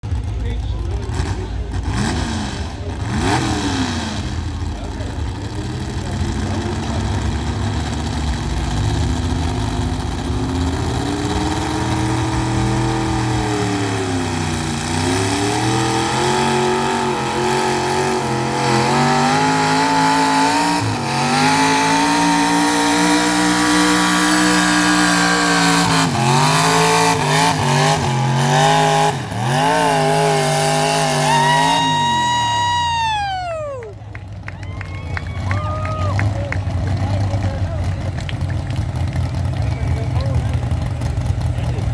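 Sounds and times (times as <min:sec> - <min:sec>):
tractor engine under full load: 0:00.0 - 0:41.9.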